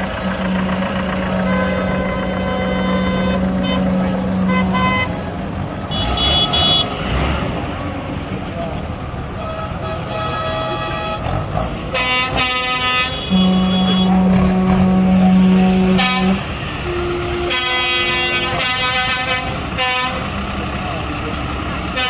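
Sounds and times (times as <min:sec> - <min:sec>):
tractor horns blasting: 0:00.0 - 0:07.4, 0:09.3 - 0:20.5
engines running: 0:00.0 - 0:22.0.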